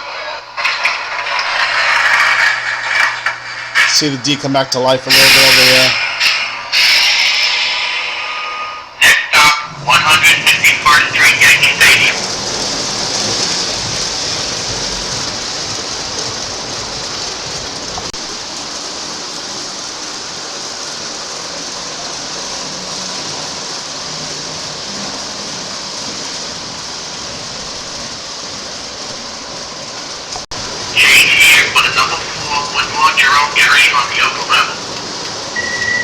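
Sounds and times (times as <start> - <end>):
model train rumbling on track: 0.0 - 36.0.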